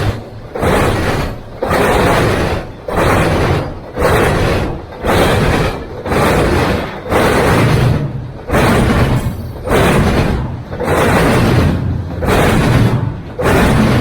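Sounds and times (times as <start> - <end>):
freight train cars rolling past: 0.0 - 14.0.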